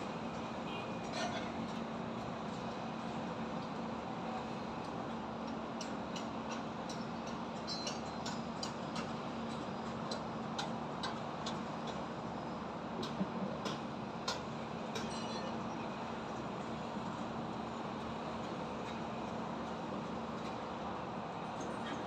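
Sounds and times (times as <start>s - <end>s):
traffic: 0.0s - 22.0s.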